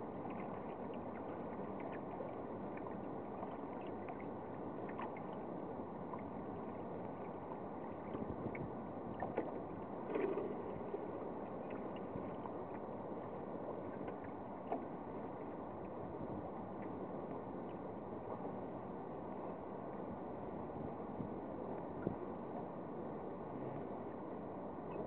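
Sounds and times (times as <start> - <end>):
water lapping along boat hull: 0.0 - 25.0.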